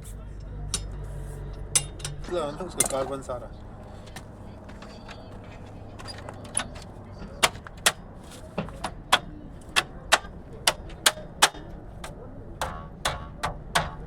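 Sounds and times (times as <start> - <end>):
metal tools tapping and knocking: 0.6 - 14.0.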